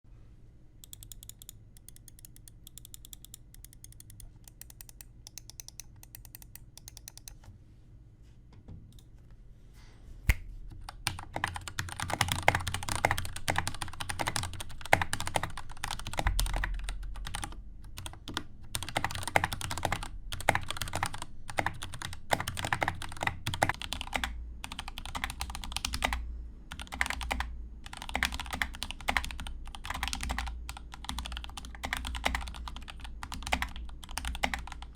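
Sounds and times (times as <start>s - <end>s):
mechanical keyboard typing: 0.8s - 7.5s, 10.8s - 34.9s.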